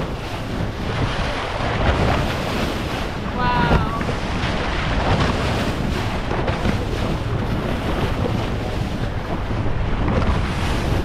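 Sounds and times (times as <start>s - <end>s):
low rumble: 0.0s - 11.0s
water rushing along boat hull: 0.0s - 11.0s
wind buffeting microphone: 0.0s - 11.0s.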